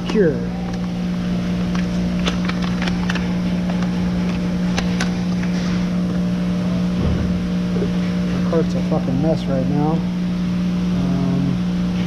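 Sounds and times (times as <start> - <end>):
loud machine hum: 0.0 - 12.0.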